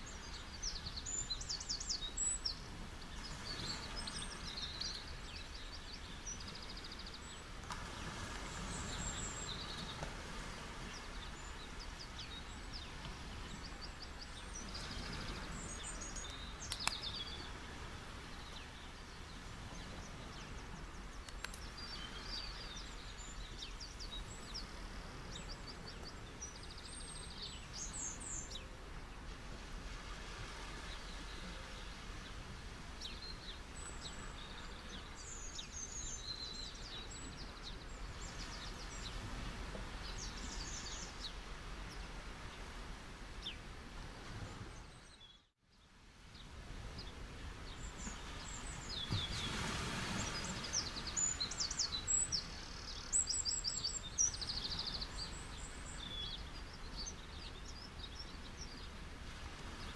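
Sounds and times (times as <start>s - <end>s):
small birds chirping: 0.0s - 7.8s, 10.8s - 28.8s, 30.8s - 42.6s, 44.6s - 59.0s
beach waves washing: 0.0s - 44.9s, 46.2s - 59.9s.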